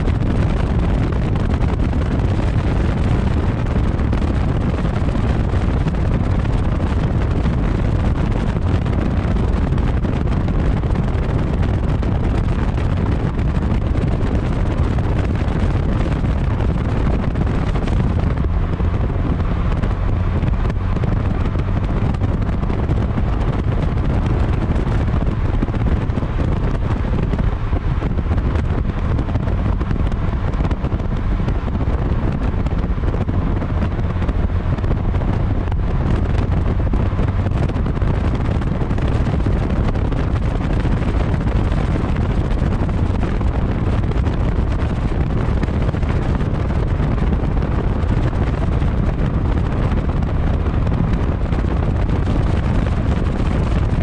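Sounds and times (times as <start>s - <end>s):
tyre noise on asphalt: 0.0s - 54.0s
wind buffeting microphone: 0.0s - 54.0s.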